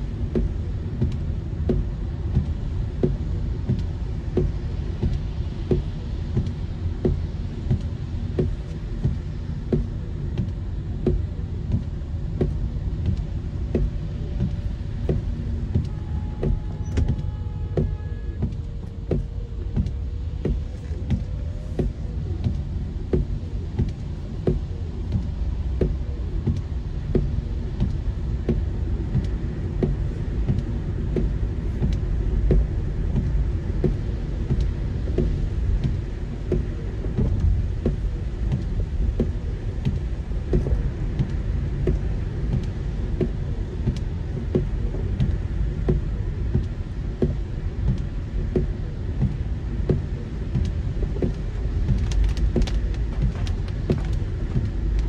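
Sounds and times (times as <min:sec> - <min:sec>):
car driving in heavy rain: 0:00.0 - 0:55.0.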